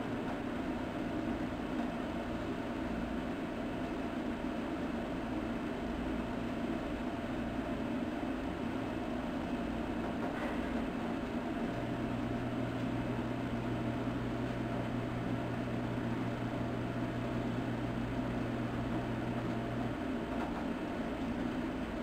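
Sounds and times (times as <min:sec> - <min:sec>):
low mechanical background noise: 0:00.0 - 0:22.0.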